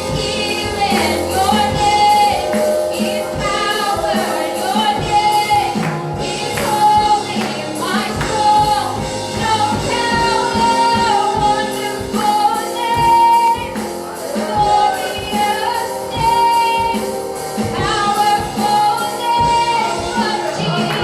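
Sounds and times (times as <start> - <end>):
band with steady drum beat: 0.0 - 21.0
singers: 0.0 - 21.0.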